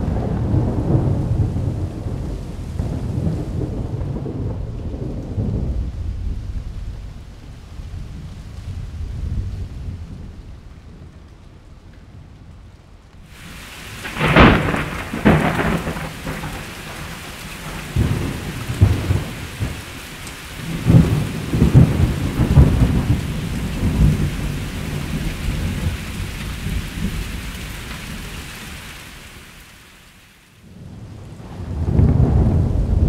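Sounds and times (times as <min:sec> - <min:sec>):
loud thunderclaps: 0:00.0 - 0:10.7, 0:13.3 - 0:28.2, 0:30.8 - 0:33.0
rolling thunder rumbles: 0:00.0 - 0:12.6, 0:13.3 - 0:28.8, 0:30.6 - 0:33.0
steady rain: 0:00.0 - 0:33.0.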